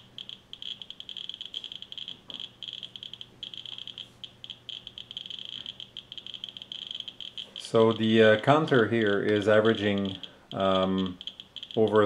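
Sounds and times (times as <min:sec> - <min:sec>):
geiger counter beeping: 0:00.0 - 0:12.0.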